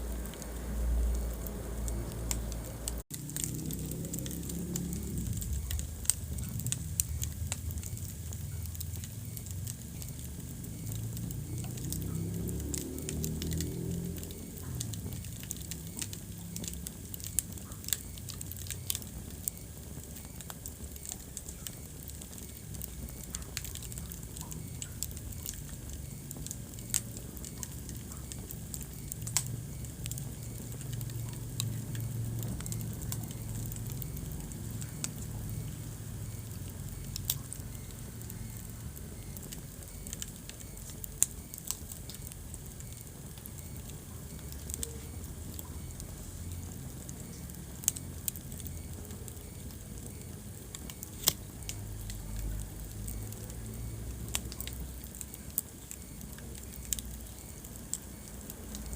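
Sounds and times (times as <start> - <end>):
wood fire crackling: 0.0 - 58.9
loud fire snaps: 0.1 - 58.9.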